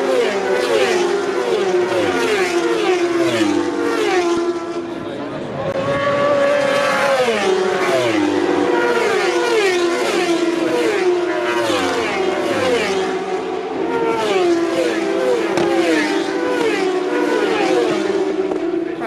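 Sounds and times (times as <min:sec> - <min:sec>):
racing motorcycles passing at speed: 0:00.0 - 0:19.0.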